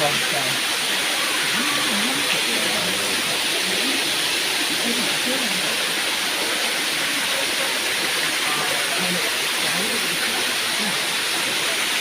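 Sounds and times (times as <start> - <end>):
faint voices: 0.0 - 12.0
waterfall rushing: 0.0 - 12.0.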